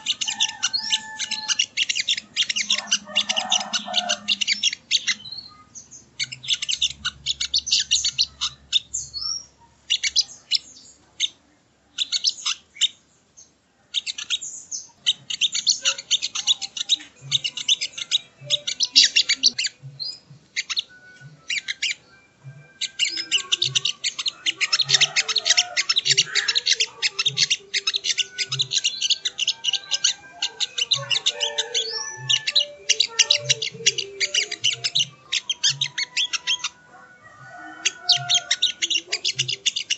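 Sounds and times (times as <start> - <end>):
bird sharp high chirps: 0.0 - 11.4, 13.9 - 36.8.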